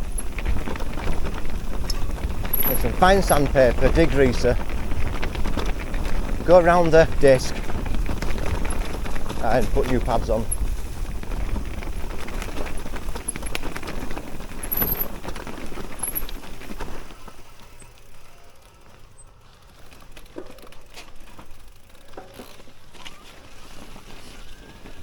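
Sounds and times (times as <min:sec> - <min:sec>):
bike rattles and clicks: 0:00.0 - 0:25.0
wind and tyre rumble: 0:00.0 - 0:25.0.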